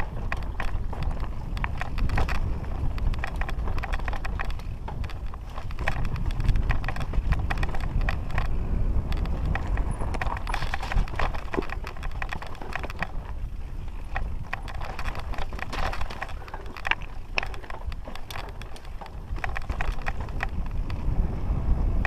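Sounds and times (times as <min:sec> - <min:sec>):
mountain bike rattling over rocks: 0:00.0 - 0:22.0
wind on microphone: 0:00.0 - 0:22.0.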